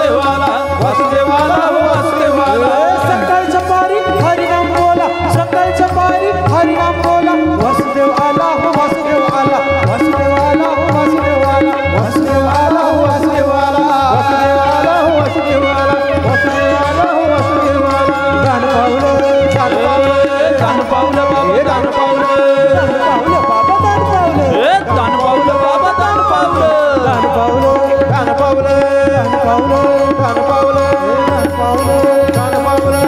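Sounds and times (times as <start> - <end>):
keyboard and violin melody: 0.0 - 33.0
tabla rhythm: 0.0 - 33.0.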